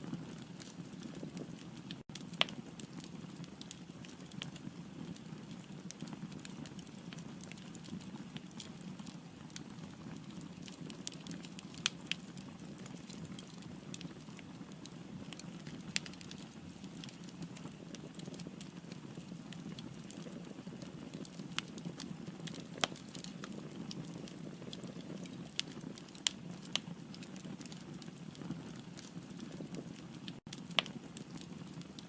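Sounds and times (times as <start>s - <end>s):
wood crackling and popping: 0.0s - 32.0s.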